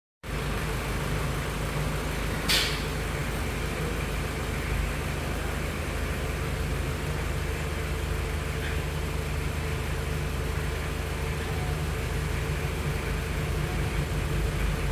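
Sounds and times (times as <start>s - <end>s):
car engine idling: 0.2s - 14.9s.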